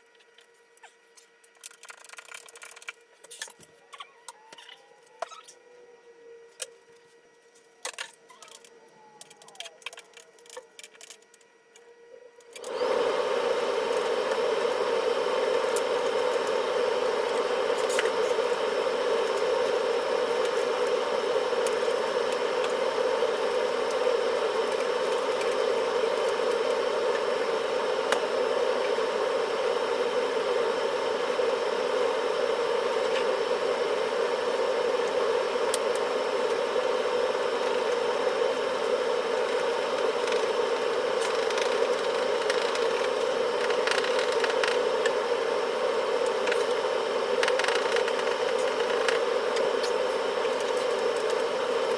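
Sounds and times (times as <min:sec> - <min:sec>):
loud droning mechanical hum: 0:00.0 - 0:51.9.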